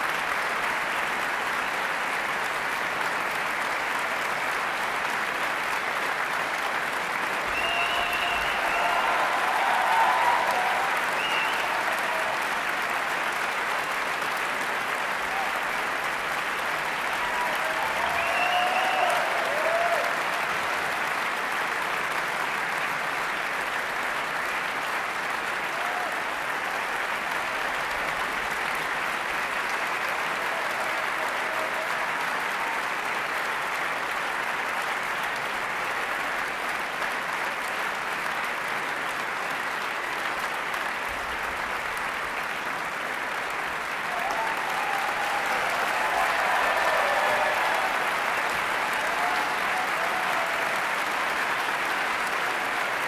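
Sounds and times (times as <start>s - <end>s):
audience applauding: 0.0s - 53.0s.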